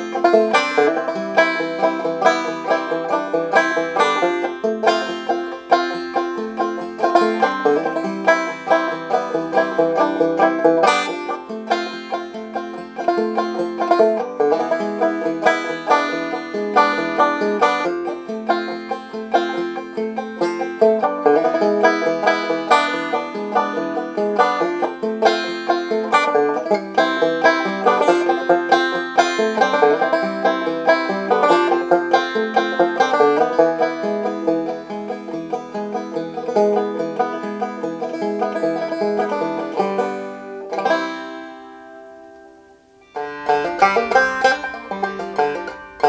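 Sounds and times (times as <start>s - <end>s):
banjo picking: 0.0s - 46.0s.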